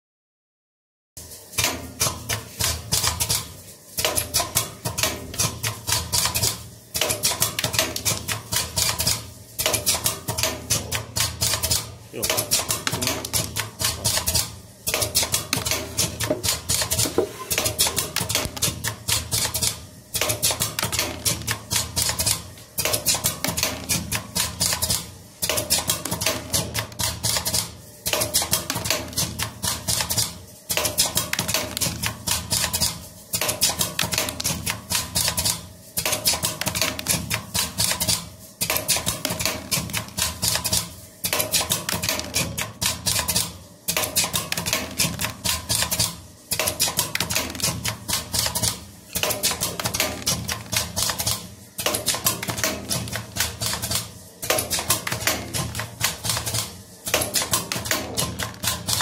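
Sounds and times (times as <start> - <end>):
machine metallic clicks and clatter: 1.2 - 59.0.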